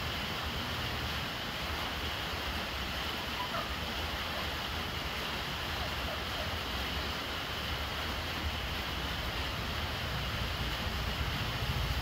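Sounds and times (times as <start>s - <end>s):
rain splashing into water: 0.0s - 12.0s
water running from downpipe: 0.0s - 12.0s.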